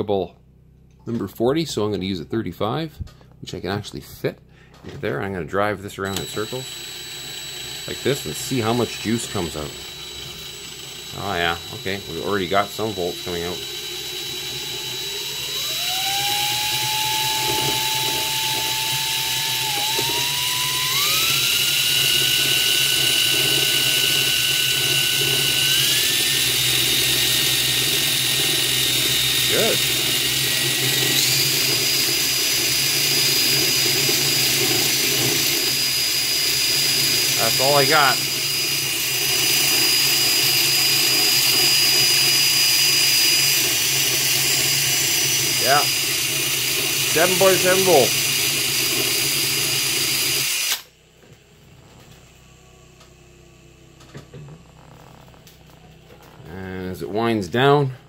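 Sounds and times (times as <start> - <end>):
power drill whine: 6.0 - 56.6.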